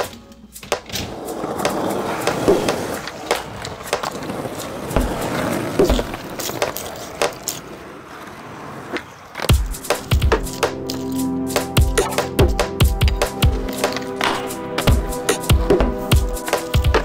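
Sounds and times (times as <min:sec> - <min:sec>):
skateboard wheels rolling on pavement: 0:00.7 - 0:17.0.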